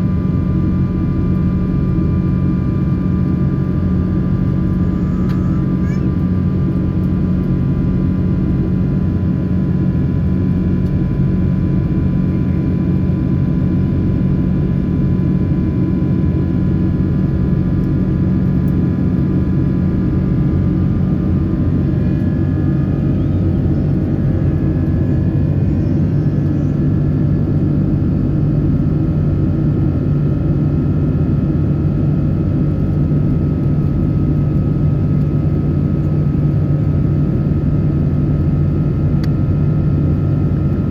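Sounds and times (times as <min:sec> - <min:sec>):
faint engine whine: 0:00.0 - 0:40.9
jet engine rumble: 0:00.0 - 0:40.9.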